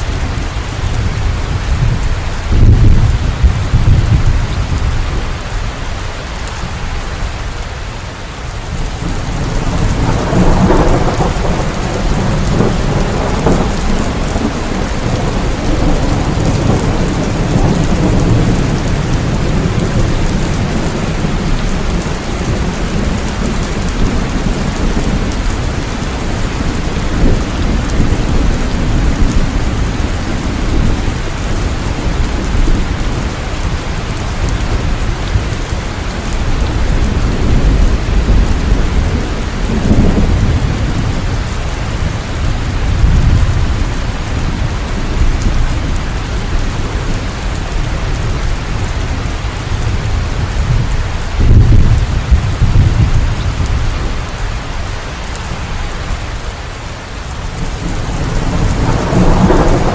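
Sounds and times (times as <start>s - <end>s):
low rolling thunder: 0.0s - 5.8s, 8.7s - 56.4s, 57.4s - 59.9s
heavy rain: 0.0s - 59.9s.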